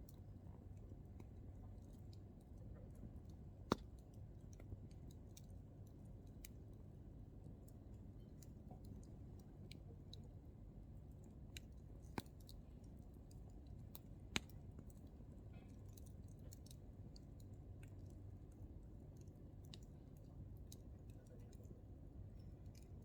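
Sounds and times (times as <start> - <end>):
campfire flame rumble: 0.0 - 23.0
firewood crackles: 0.0 - 23.0.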